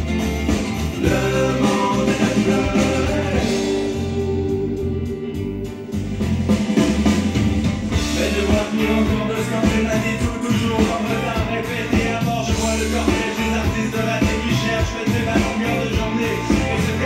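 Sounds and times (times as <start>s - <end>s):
rock song with singing: 0.0s - 17.0s.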